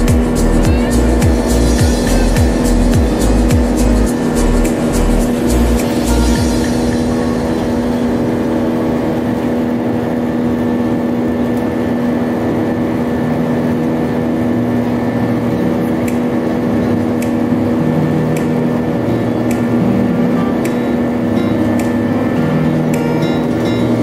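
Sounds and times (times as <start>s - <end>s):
airplane cabin engine drone: 0.0s - 24.0s.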